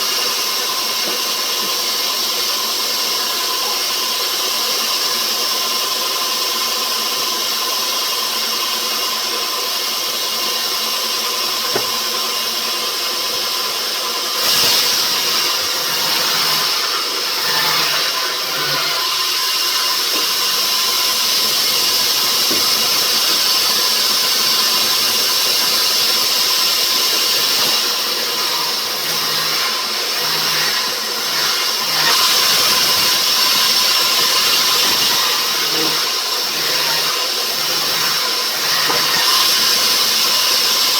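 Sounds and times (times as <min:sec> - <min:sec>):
saw cutting wood: 0:00.0 - 0:40.9.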